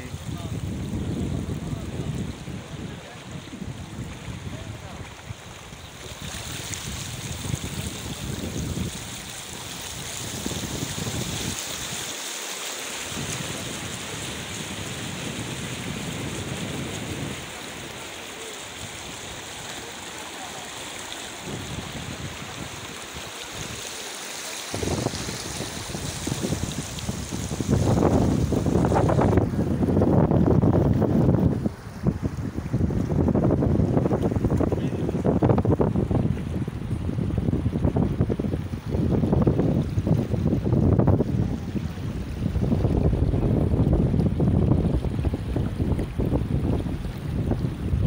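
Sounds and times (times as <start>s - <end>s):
wind buffeting microphone: 0.0s - 12.0s, 13.1s - 18.1s, 21.2s - 23.8s, 24.7s - 48.0s
floodwater rushing: 0.0s - 48.0s.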